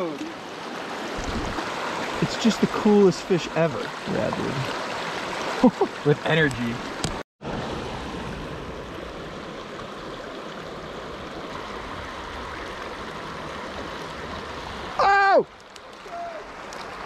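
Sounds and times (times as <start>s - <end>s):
creek flowing over cobbles: 0.0s - 17.0s.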